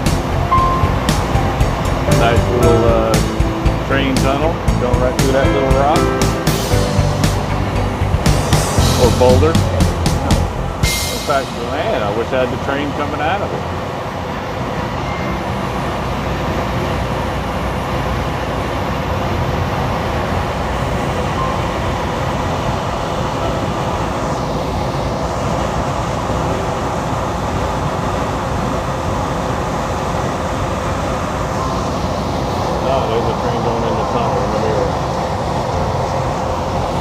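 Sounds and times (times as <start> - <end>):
truck engine and road noise: 0.0 - 37.0.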